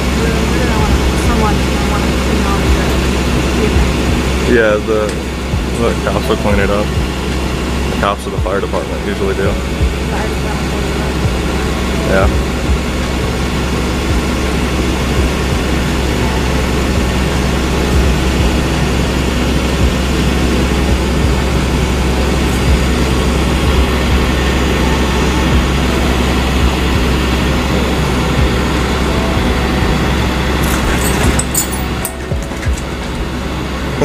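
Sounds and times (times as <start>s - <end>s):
truck engine droning: 0.0s - 34.0s.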